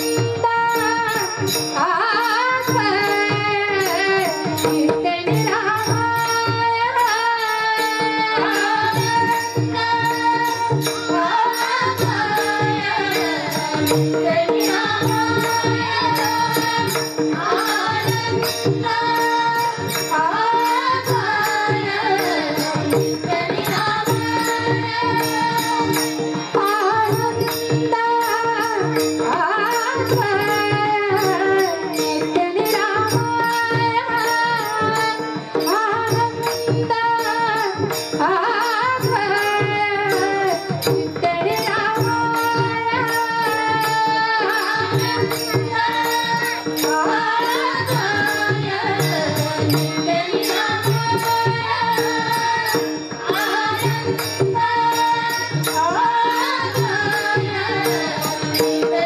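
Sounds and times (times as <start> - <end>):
percussion strokes: 0.0 - 59.0
woman singing devotional song: 0.0 - 59.0.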